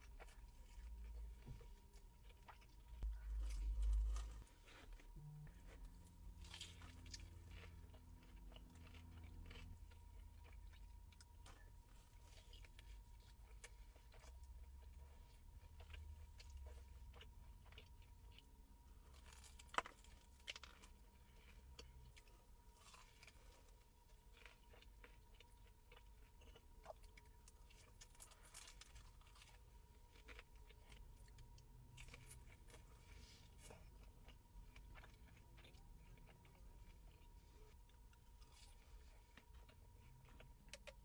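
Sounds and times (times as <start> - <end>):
person chewing and crunching food: 0.0 - 41.0.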